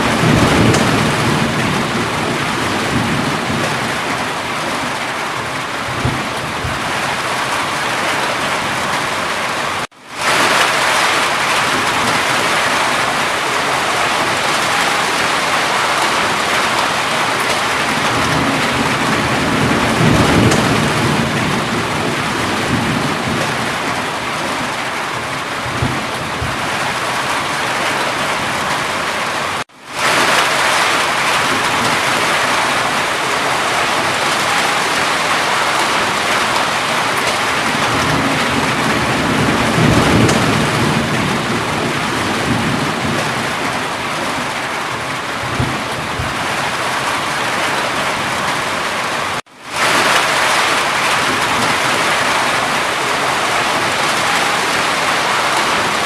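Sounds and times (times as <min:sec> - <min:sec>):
distant thunder rumble: 0:00.0 - 0:09.3, 0:10.2 - 0:29.3, 0:30.0 - 0:56.0
heavy rain hiss: 0:00.0 - 0:56.0.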